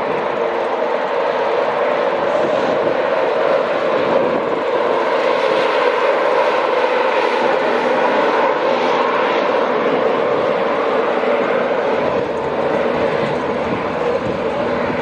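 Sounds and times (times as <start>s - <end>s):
train running: 0.0s - 15.0s.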